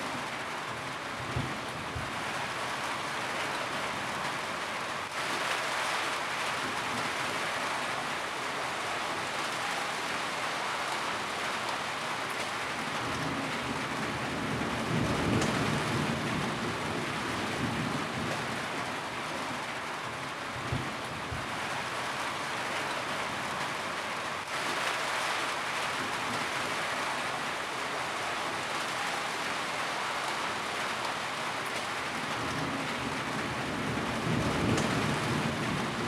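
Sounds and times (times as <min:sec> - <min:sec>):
rain falling on a roof: 0:00.0 - 0:36.0.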